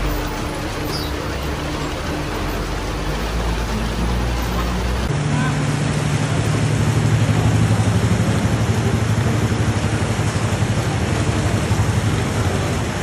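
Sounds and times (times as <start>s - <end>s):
heavy rain pouring: 0.0s - 13.0s
vehicle engine running: 0.0s - 13.0s.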